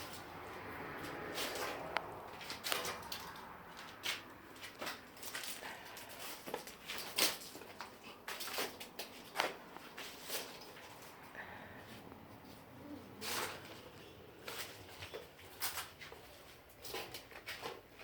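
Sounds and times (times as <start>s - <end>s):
scuffs and rustles: 1.1s - 18.0s.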